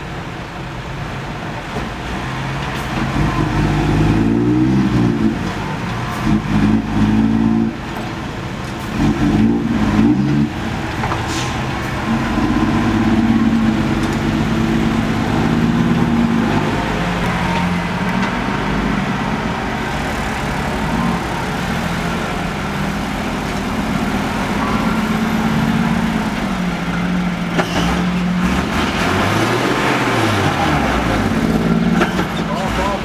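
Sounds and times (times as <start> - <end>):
truck diesel engine revving: 1.9 - 33.0.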